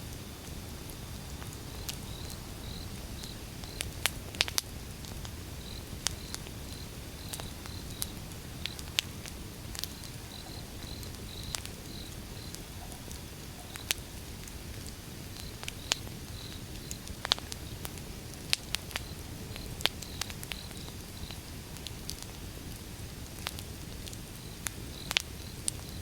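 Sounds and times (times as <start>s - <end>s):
faint insect chirp: 0.0s - 26.0s
low steady fire rumble: 0.0s - 26.0s
wood fire crackling and popping: 0.0s - 26.0s.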